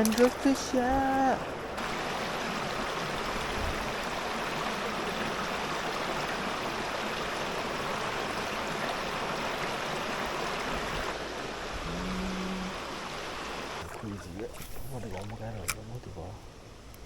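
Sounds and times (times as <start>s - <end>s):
river water rushing: 0.0s - 15.8s.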